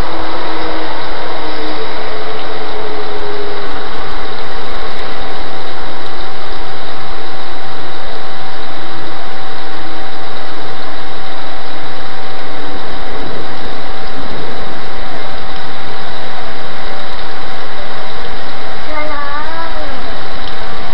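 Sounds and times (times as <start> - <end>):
heavy rain: 0.0 - 20.9
steady tone: 0.0 - 20.9.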